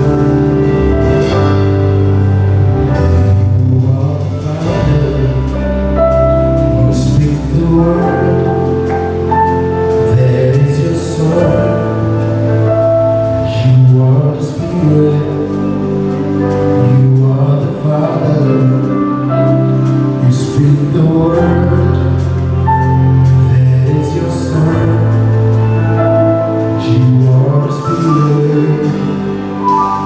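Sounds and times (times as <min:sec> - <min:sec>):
person singing: 0:00.0 - 0:30.0
steady bass line: 0:00.0 - 0:30.0
sustained keyboard chords: 0:00.0 - 0:30.0.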